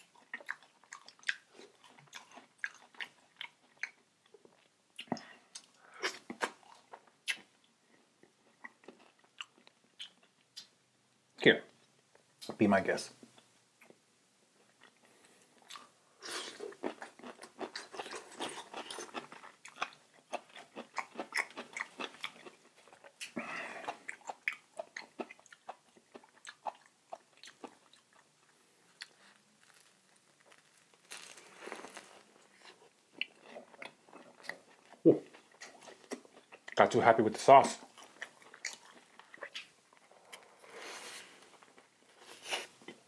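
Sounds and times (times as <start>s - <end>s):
person chewing food: 0.0s - 10.8s, 14.6s - 36.8s, 37.6s - 43.0s.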